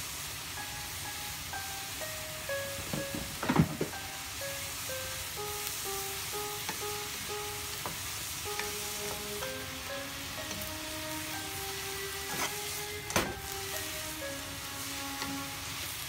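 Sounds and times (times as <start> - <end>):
food sizzling in a frying pan: 0.0 - 16.0
soft plucked music: 0.9 - 16.0.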